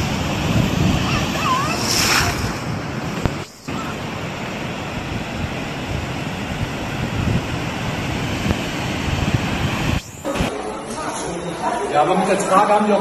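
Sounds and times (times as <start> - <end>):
wind buffeting microphone: 0.0 - 10.5
floodwater roaring: 0.0 - 10.6.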